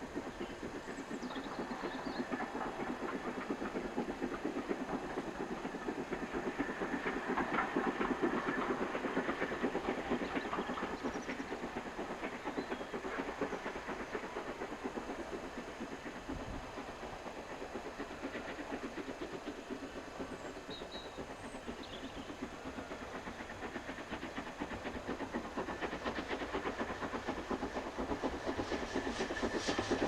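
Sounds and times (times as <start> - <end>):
steam hissing: 0.0 - 30.0
train wheels clattering on rails: 0.0 - 30.0.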